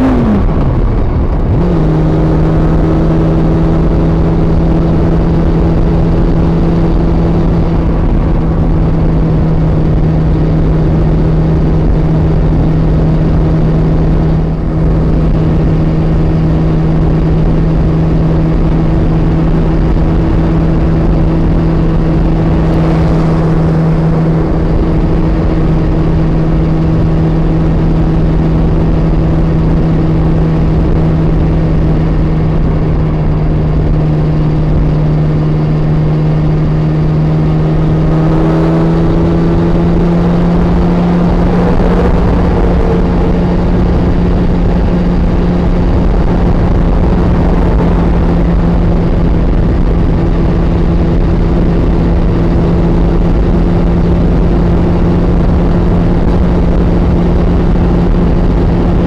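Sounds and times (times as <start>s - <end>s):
muffled motorcycle engine cruising: 0.0s - 59.0s
wind and road noise: 0.0s - 59.0s.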